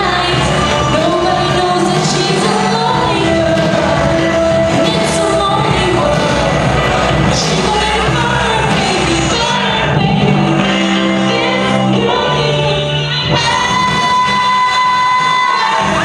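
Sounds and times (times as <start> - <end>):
girl singing into microphone: 0.0 - 6.5, 7.4 - 16.0
instrumental backing track: 0.0 - 16.0.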